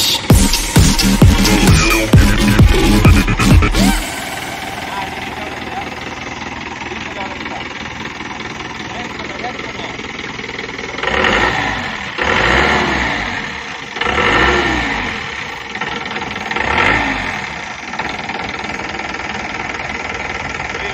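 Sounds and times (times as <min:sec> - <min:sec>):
diesel engine idling and revving: 0:00.0 - 0:20.9.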